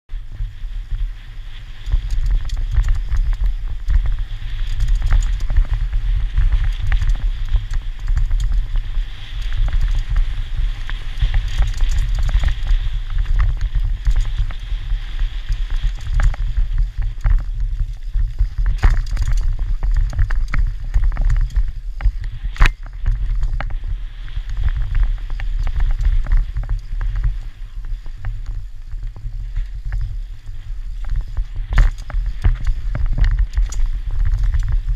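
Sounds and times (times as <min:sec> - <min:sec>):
bike rattling over bumps: 0:00.1 - 0:34.9
tyre noise on dirt: 0:00.1 - 0:34.9
wind buffeting microphone: 0:00.1 - 0:34.9.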